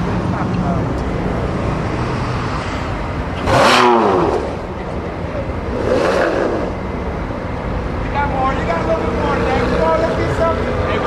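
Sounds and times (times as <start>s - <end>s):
car engine revving: 0.0s - 11.0s
steady background noise: 0.0s - 11.0s.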